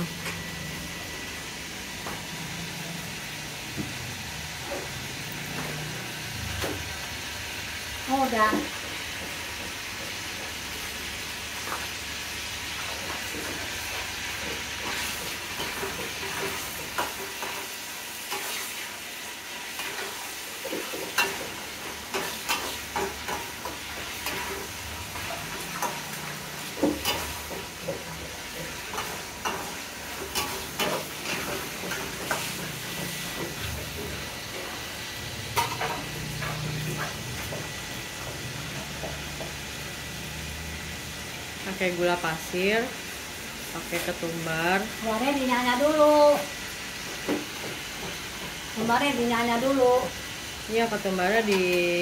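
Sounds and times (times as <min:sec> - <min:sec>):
food sizzling in hot oil: 0:00.0 - 0:52.0.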